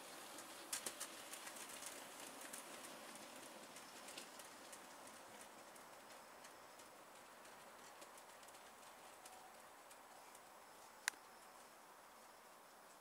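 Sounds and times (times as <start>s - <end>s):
model train wheels clicking: 0.0s - 10.5s
steady hiss: 0.0s - 13.0s.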